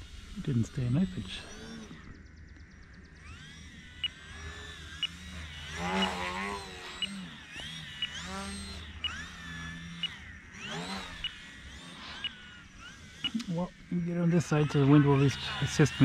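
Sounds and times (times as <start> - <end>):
model plane motor whine: 0.0 - 16.0.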